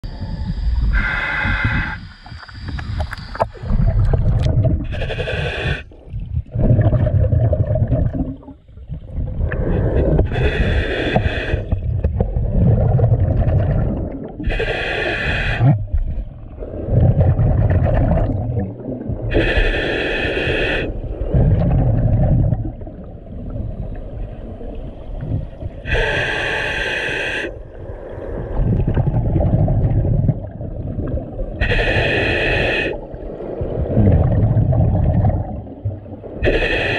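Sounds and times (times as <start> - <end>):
low underwater rumbling: 0.0 - 14.5, 15.6 - 19.4, 20.9 - 26.0, 27.5 - 31.7, 33.0 - 36.5
exhaled bubbles rushing underwater: 0.0 - 19.7, 20.8 - 26.0, 27.5 - 36.9.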